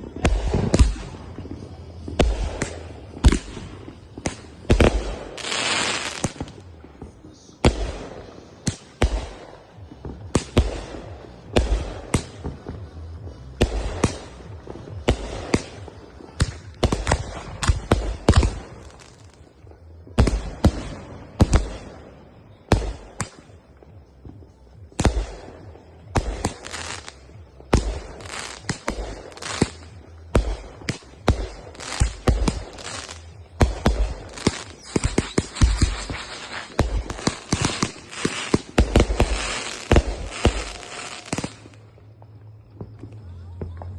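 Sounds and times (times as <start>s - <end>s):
fireworks bangs: 0.0s - 43.9s
fireworks crackle: 0.0s - 43.9s.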